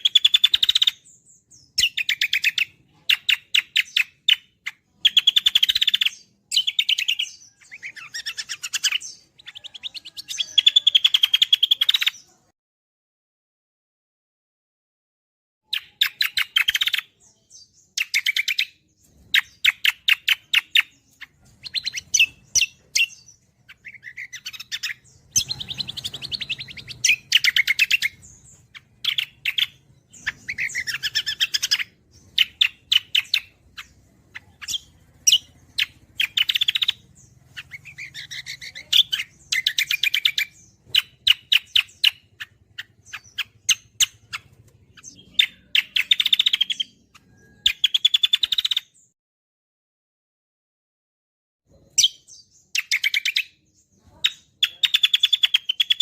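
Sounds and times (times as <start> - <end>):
songbird chattering song: 0.0 - 12.5, 15.7 - 49.2, 51.7 - 56.0.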